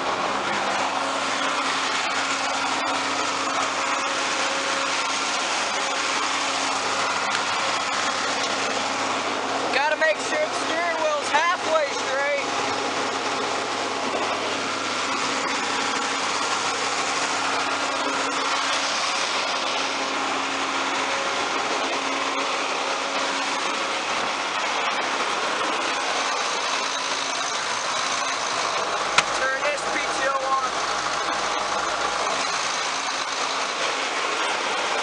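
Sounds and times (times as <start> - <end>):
tractor diesel engine running: 0.0 - 35.0
wagon unloader running: 0.0 - 35.0.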